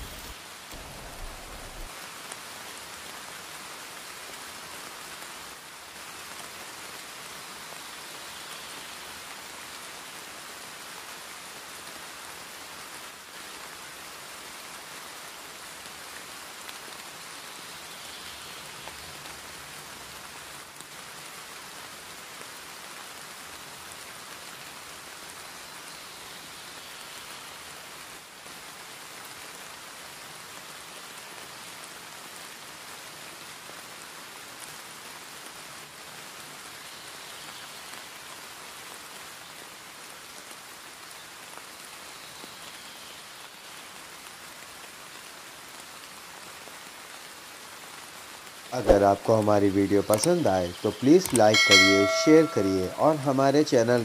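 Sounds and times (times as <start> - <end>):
heavy rain on stone paving: 0.0 - 54.0.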